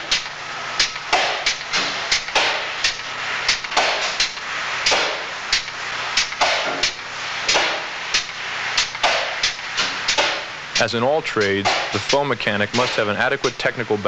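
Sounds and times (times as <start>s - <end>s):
sharp knocks: 0.0s - 3.0s, 3.6s - 12.2s
steady hiss: 0.0s - 14.0s.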